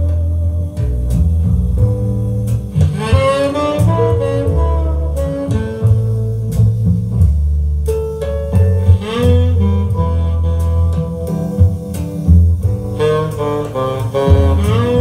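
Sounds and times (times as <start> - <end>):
saxophone melody: 0.0 - 6.7, 8.5 - 15.0
double bass line: 0.0 - 15.0.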